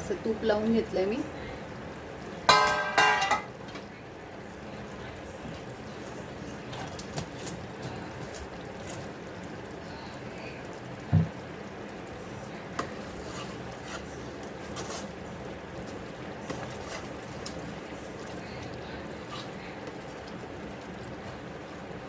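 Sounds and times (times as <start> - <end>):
thick mixture cooking in a pan: 0.0 - 22.0.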